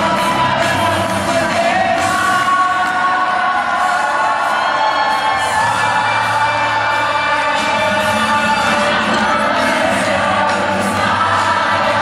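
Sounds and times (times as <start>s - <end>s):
crowd cheering: 0.0s - 12.0s
group singing: 0.0s - 12.0s
music: 0.0s - 12.0s.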